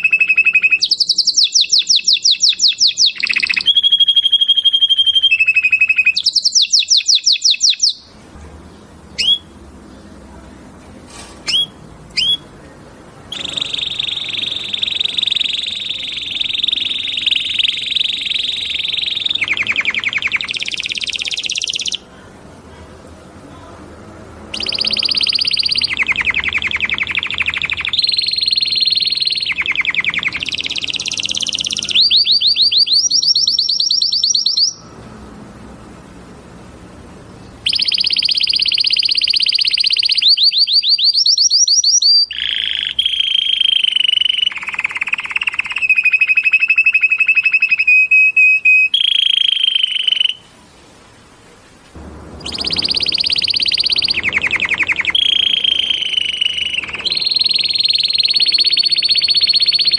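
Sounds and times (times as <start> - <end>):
canary singing: 0.0 - 10.8, 11.4 - 35.4, 37.3 - 50.5, 52.2 - 59.9.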